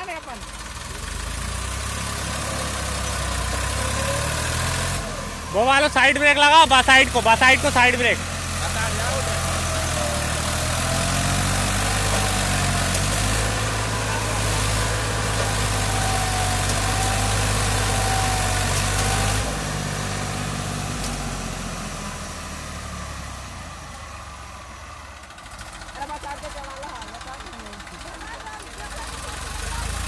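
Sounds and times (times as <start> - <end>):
tractor diesel engine straining: 0.0 - 30.0.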